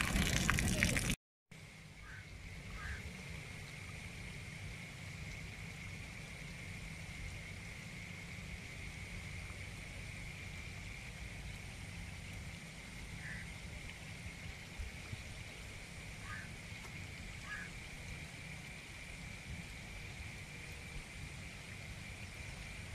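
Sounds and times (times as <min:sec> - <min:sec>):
rain falling on a puddle: 0:00.0 - 0:22.9.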